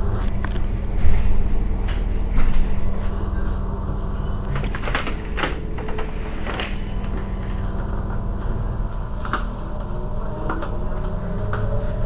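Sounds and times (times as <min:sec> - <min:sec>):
electric bus humming: 0:00.0 - 0:12.0.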